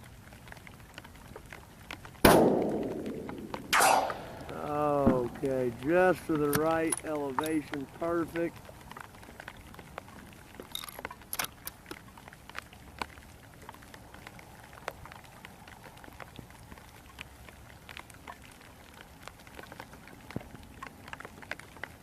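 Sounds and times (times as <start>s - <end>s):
heavy rain: 0.0s - 22.0s
raindrops tapping on surfaces: 0.0s - 22.0s.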